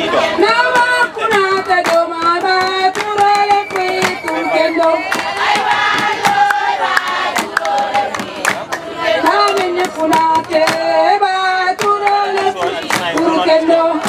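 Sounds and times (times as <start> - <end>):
women singing in chorus: 0.0 - 14.0
hand claps: 0.7 - 11.0, 11.6 - 13.4.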